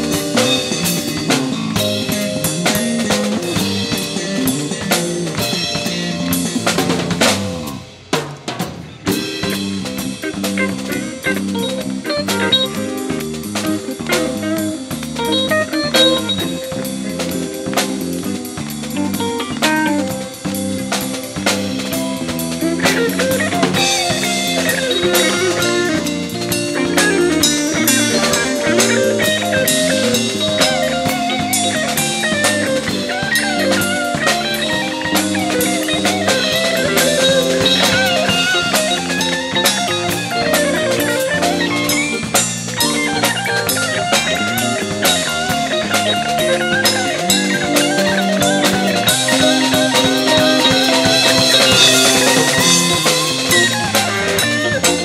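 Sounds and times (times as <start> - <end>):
drum kit busy beat: 0.0 - 55.0
guitar: 0.0 - 55.0
jazz-funk band playing: 0.0 - 55.0.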